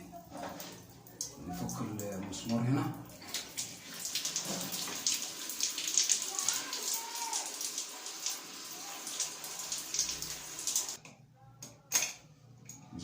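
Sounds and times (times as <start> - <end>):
water splashing and trickling: 0.3 - 11.0.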